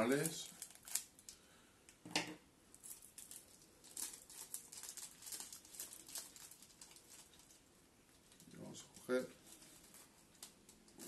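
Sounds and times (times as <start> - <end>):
plastic bag crinkling: 0.0 - 1.4, 2.8 - 11.0.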